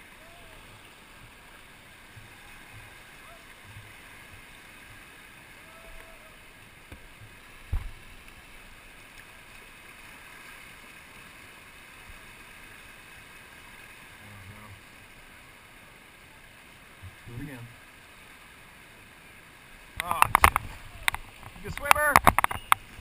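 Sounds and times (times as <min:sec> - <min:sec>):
whitewater rapid rushing: 0:00.0 - 0:23.0.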